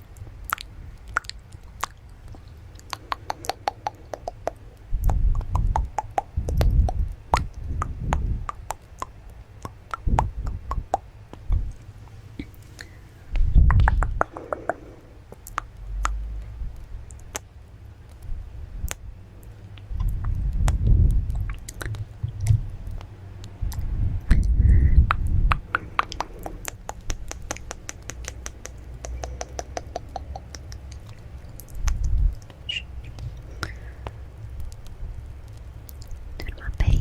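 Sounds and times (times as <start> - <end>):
muffled squishy bursts: 0.0 - 37.0
wet mouth clicks and pops: 0.1 - 11.8, 12.4 - 37.0.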